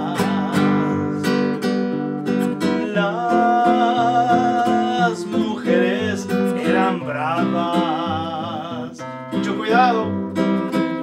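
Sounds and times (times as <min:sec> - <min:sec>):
man singing with vibrato: 0:00.0 - 0:10.5
nylon-string guitar: 0:00.0 - 0:11.0.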